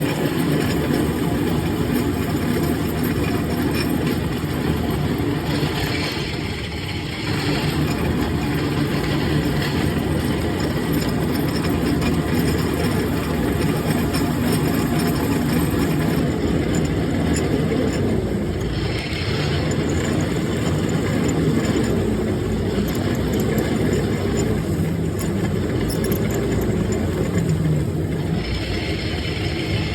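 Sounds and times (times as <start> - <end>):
machine tool motor running: 0.0 - 29.9.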